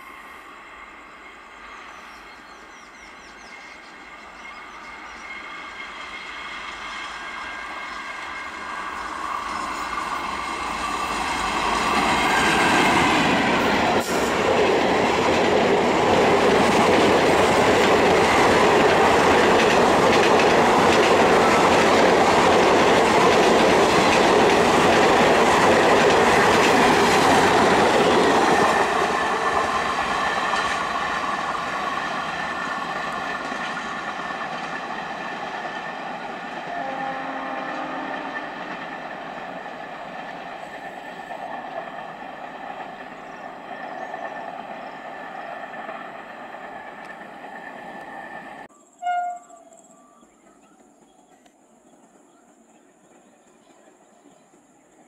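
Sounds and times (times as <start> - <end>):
train passing at speed: 0.0 - 55.0.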